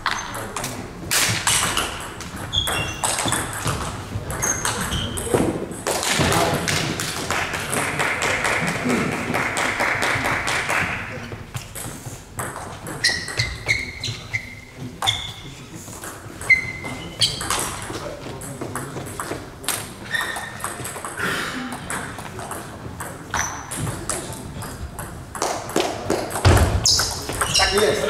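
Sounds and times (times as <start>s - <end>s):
table tennis balls clicking: 0.0s - 8.8s, 11.5s - 13.8s, 15.0s - 28.0s.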